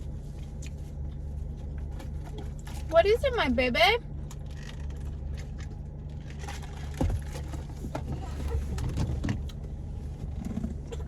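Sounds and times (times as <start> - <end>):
car engine humming inside cabin: 0.0 - 11.0.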